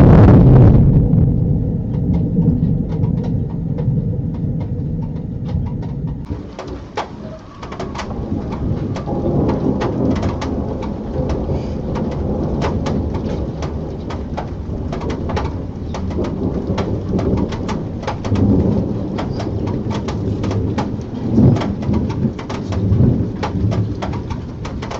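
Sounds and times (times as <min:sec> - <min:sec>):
heavy rain: 0:00.0 - 0:24.9
low rumble of thunder: 0:00.0 - 0:24.9
raindrops tapping a surface: 0:00.5 - 0:24.9.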